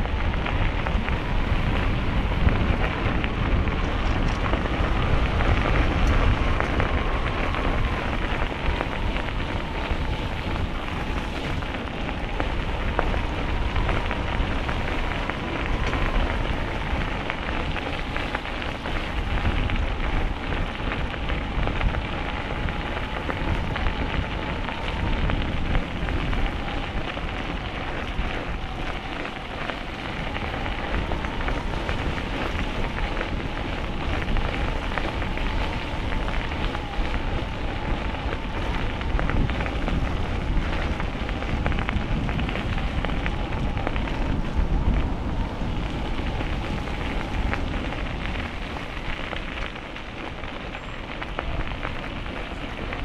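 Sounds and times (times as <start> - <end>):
bicycle tyres rolling on path: 0.0 - 53.0
faint steady whine: 0.0 - 53.0
wind buffeting microphone: 0.0 - 53.0.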